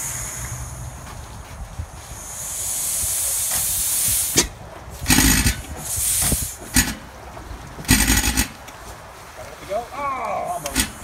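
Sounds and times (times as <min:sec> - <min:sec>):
engine exhaust blasts: 0:00.0 - 0:09.4, 0:10.5 - 0:11.0
steady hiss: 0:00.0 - 0:11.0.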